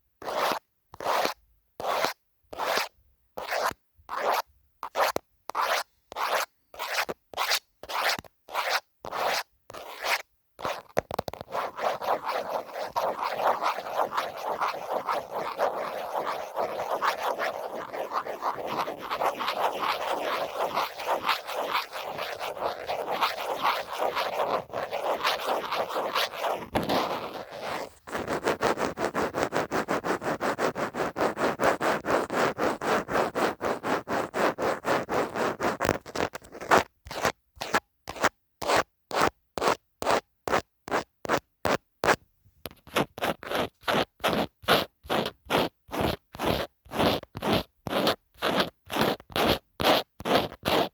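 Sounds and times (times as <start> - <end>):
scratching on phone case: 0.2 - 50.9.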